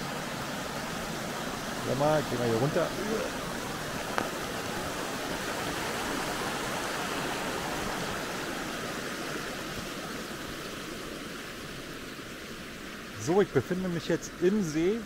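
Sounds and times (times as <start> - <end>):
brook flowing: 0.0 - 15.0.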